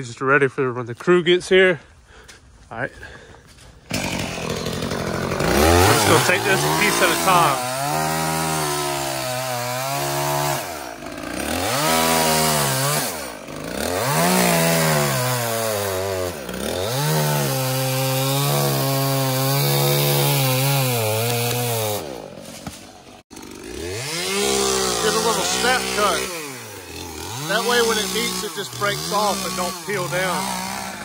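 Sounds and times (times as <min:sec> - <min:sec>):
chainsaw revving while cutting: 0:03.9 - 0:31.0.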